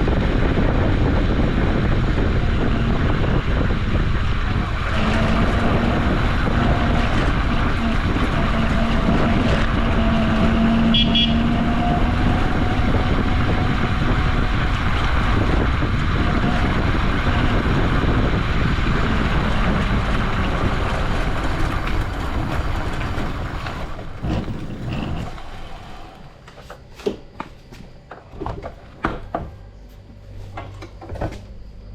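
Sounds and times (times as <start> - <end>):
electric bicycle riding noise: 0.0 - 29.4
hub motor whine: 0.0 - 31.9.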